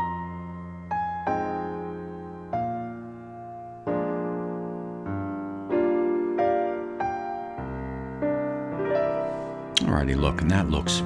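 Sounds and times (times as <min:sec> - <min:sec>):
solo piano music: 0:00.0 - 0:11.0.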